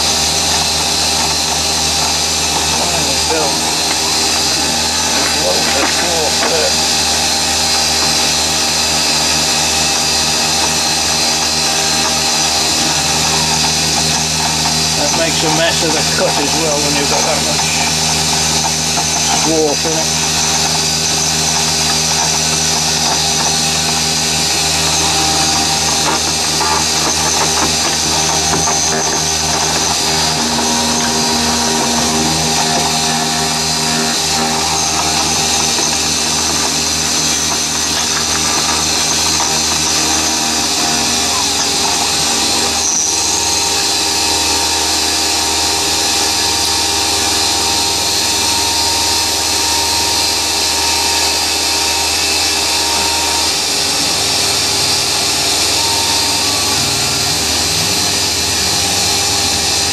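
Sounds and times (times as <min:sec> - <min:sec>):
milling machine motor whine: 0:00.0 - 0:59.9.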